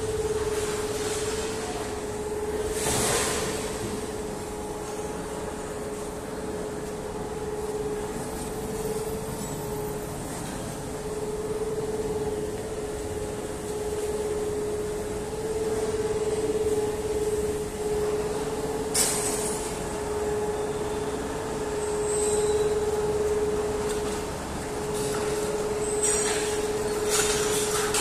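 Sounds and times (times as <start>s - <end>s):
constant hum-like tone: 0.0s - 28.0s
steady machinery noise: 0.0s - 28.0s.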